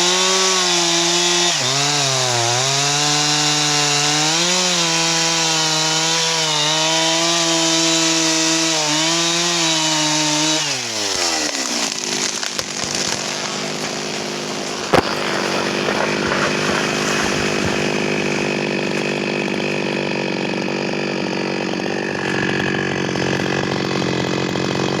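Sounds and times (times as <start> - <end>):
chainsaw cutting: 0.0 - 25.0
wood cracking: 0.0 - 25.0.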